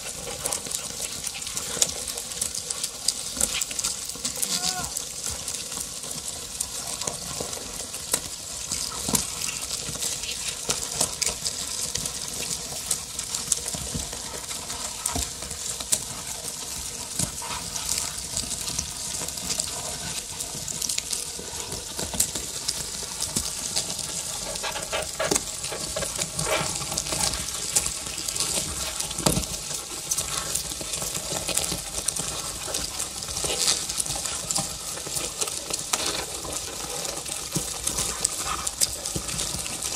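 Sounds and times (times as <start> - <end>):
crackling hiss with clicks and pops: 0.0 - 39.9.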